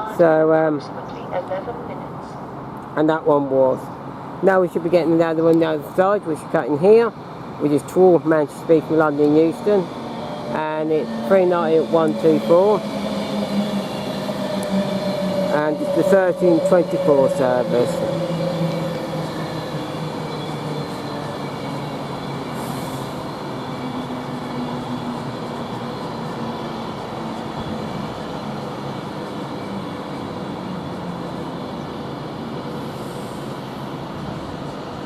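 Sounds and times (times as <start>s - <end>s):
electric train rumbling: 3.8s - 35.0s.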